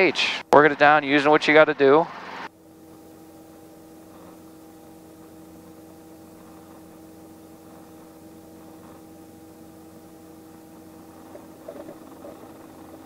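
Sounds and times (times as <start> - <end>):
helicopter cabin drone: 0.0 - 13.0.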